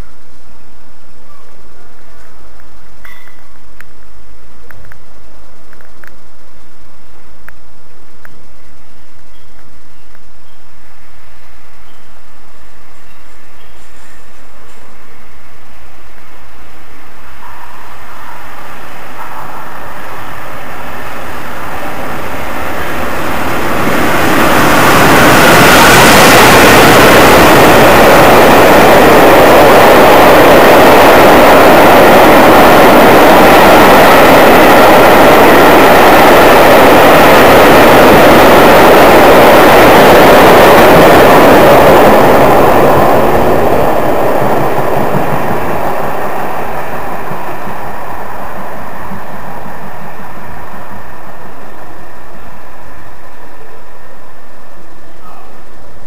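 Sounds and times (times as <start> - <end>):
passenger train passing at speed: 0.0 - 56.0.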